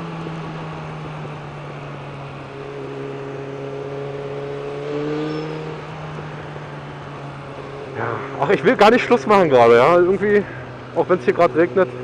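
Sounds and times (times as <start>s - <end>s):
bus engine hum: 0.0s - 12.0s
motorcycle engine cruising: 0.0s - 12.0s
road and wind noise: 0.0s - 12.0s.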